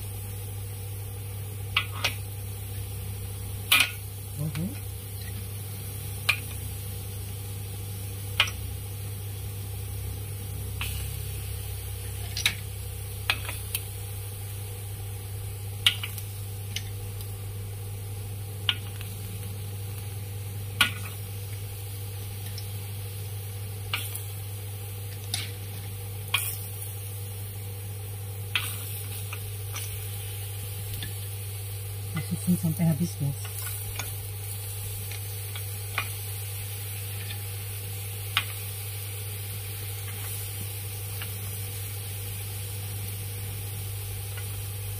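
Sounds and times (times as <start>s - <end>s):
faint sizzle: 0.0s - 44.9s.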